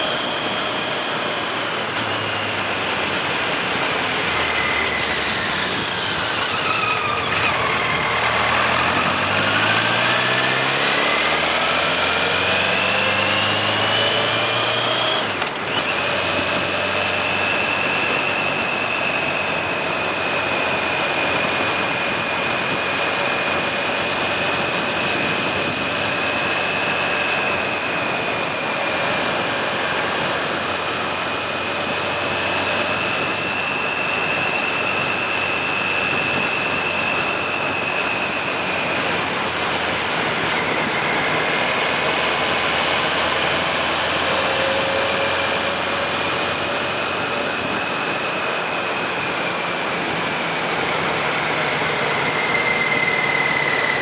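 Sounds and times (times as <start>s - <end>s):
high whine: 0.0s - 54.0s
wind rushing over microphone: 0.0s - 54.0s.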